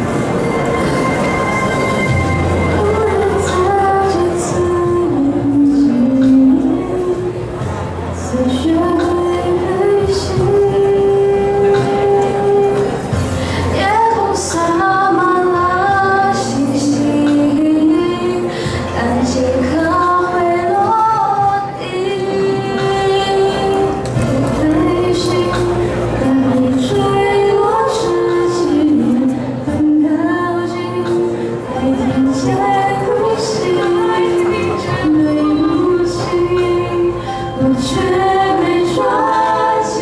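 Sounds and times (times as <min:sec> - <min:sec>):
young female voices singing: 0:02.0 - 0:40.0.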